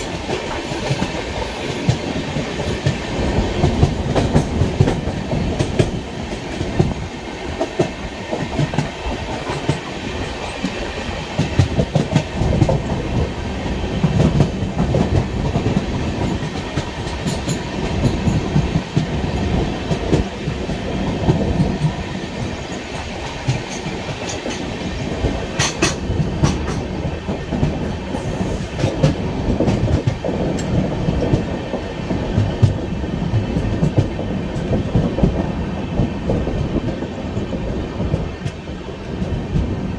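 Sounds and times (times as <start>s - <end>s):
clickety-clack track knocks: 0.0s - 39.9s
train wheels rumbling on rails: 0.0s - 39.9s.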